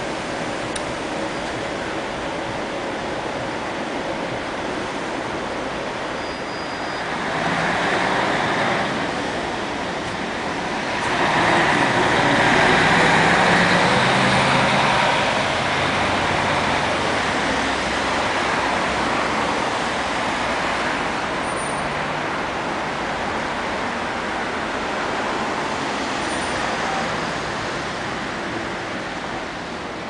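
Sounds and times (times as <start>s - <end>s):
city traffic noise: 0.0s - 30.0s
bus diesel engine pulling away: 0.1s - 30.0s.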